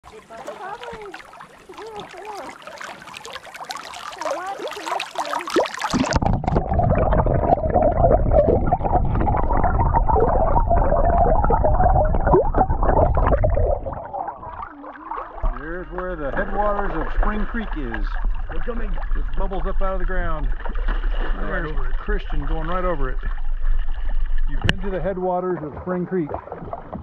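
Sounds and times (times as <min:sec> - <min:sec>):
muffled underwater bubbling: 0:00.0 - 0:27.0
spring water bubbling: 0:00.0 - 0:27.0.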